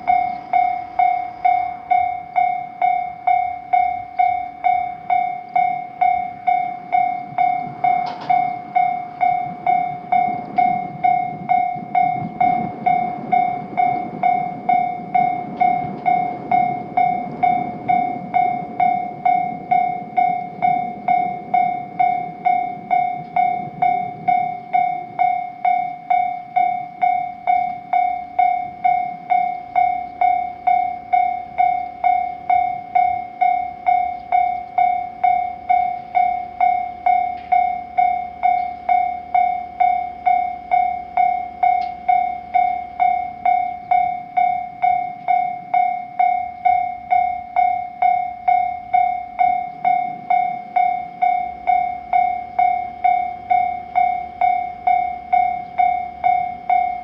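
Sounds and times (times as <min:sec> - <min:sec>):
railroad crossing bell ringing: 0:00.0 - 0:57.0.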